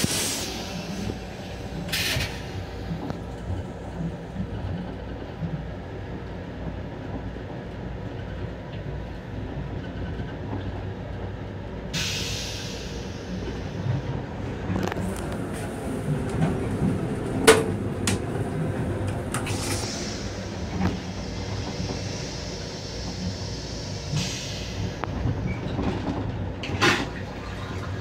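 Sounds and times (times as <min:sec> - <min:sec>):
train rumble with hiss: 0:00.0 - 0:28.0.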